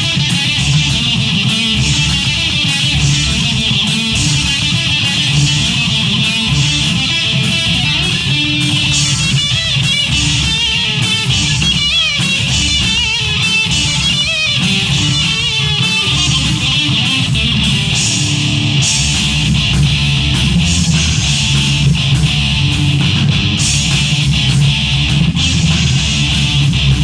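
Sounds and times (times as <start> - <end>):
electric guitar lead line: 0.0 - 27.0
rock band playing loudly: 0.0 - 27.0.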